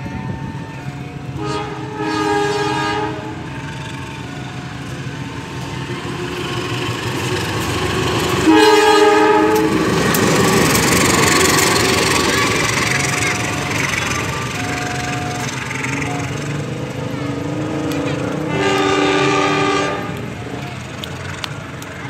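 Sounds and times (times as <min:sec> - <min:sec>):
locomotive multi-tone horn: 0:00.0 - 0:06.4, 0:07.6 - 0:21.0
locomotive engine and wheel rumble: 0:00.0 - 0:22.0.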